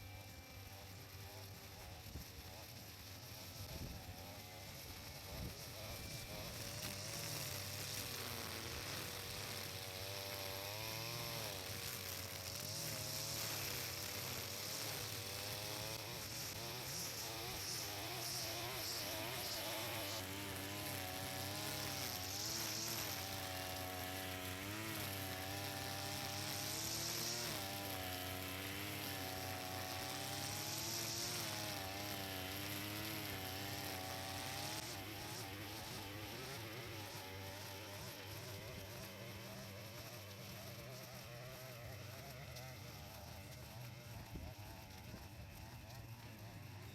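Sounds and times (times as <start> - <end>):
brush cutter cutting grass: 0.0 - 46.9.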